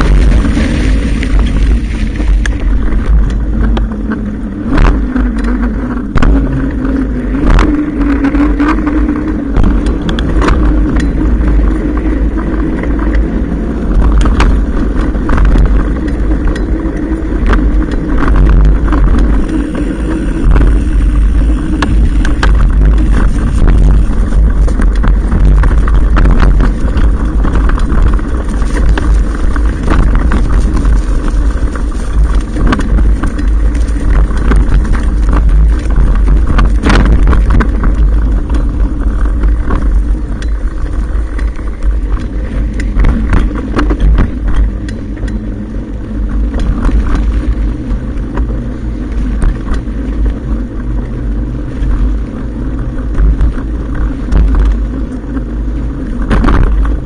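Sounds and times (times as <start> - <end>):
bike fork knocks and rattles: 0.0 - 57.0
tyre rolling noise: 0.0 - 57.0
wind rumble on microphone: 0.0 - 57.0.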